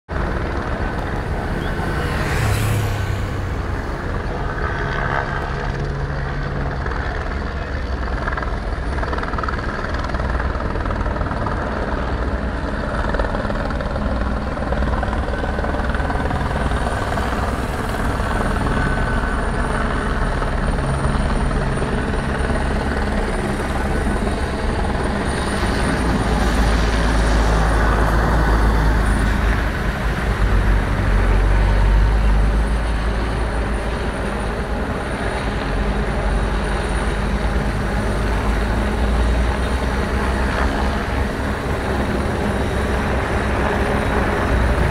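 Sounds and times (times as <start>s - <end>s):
motorcycle engines: 0.1s - 9.4s, 13.4s - 44.9s.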